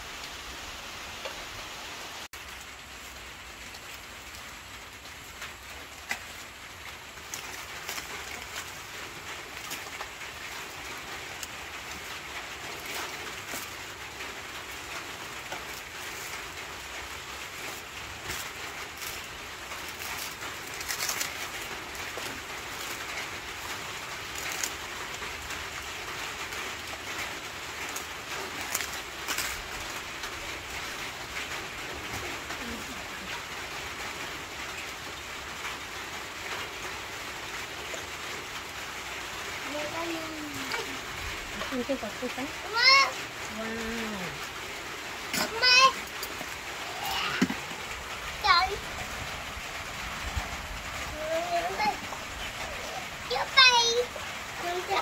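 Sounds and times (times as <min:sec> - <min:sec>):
banana leaves rustling and crackling: 0:00.0 - 0:55.0.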